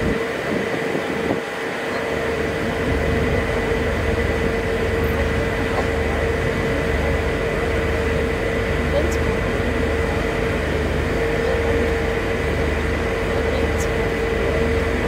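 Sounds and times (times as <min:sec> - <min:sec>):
constant engine whine: 0:00.0 - 0:15.0
ship engine low rumble: 0:00.0 - 0:15.0.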